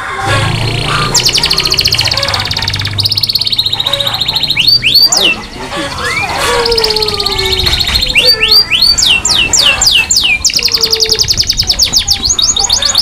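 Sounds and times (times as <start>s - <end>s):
canary singing trills and whistles: 0.0s - 13.0s.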